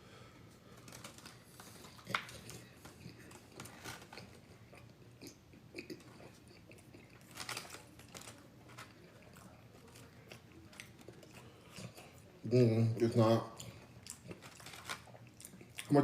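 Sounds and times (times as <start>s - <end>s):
person chewing food: 0.5s - 16.0s.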